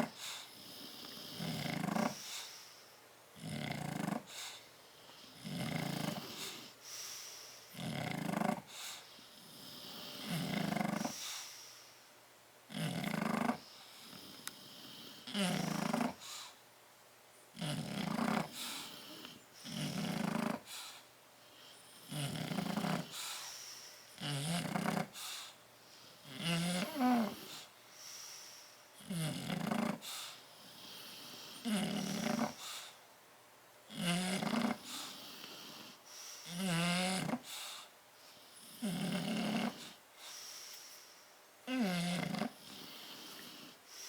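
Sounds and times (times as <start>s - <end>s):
dog snoring: 0.0s - 2.7s, 3.4s - 11.8s, 12.7s - 16.6s, 17.5s - 23.6s, 24.2s - 33.0s, 33.9s - 40.7s, 41.6s - 44.0s.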